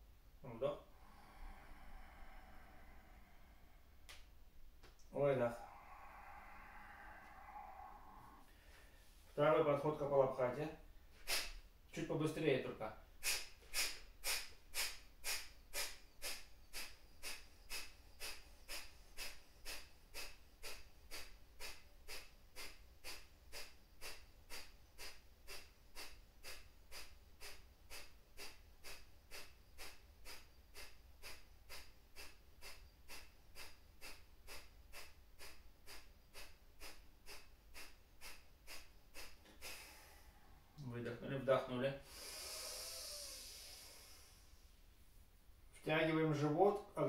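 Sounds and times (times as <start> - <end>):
forceful nasal exhalations: 0.6 - 9.4, 10.2 - 11.7, 13.1 - 44.9.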